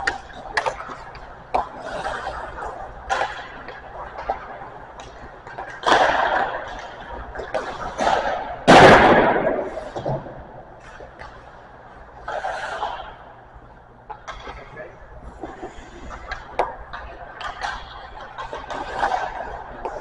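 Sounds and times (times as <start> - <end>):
hockey pucks cracking on boards: 0.0 - 11.6, 14.1 - 20.0.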